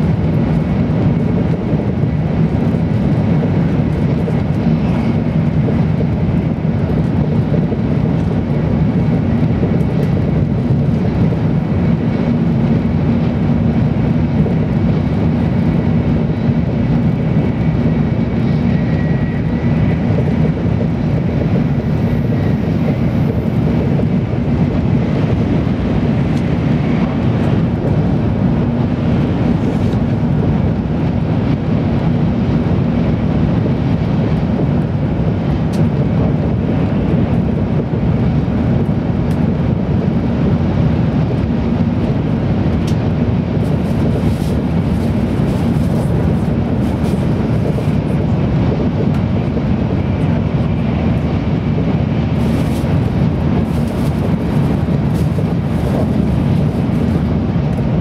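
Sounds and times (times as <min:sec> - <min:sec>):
train running noise inside car: 0:00.0 - 0:58.0.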